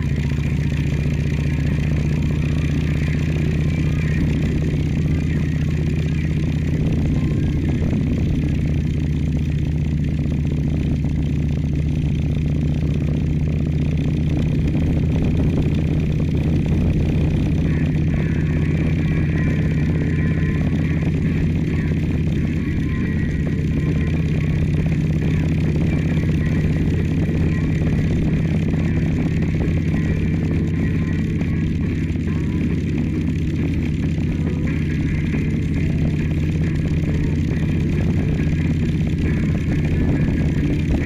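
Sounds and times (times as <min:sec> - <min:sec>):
motorcycle engine droning: 0:00.0 - 0:41.0
road noise: 0:00.0 - 0:41.0.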